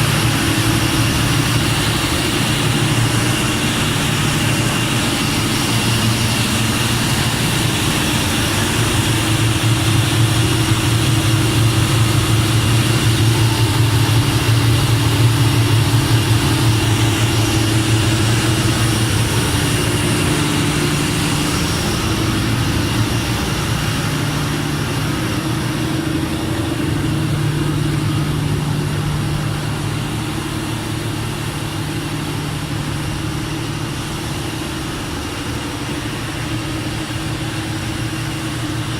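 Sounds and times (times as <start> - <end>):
diesel generator engine droning: 0.0 - 38.9.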